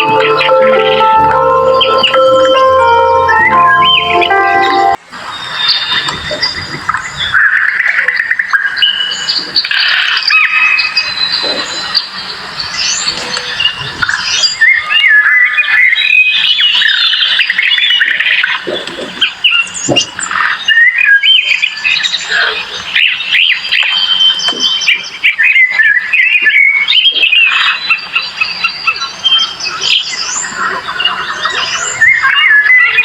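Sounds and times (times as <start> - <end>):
birds chirping and whistling: 5.4 - 33.0.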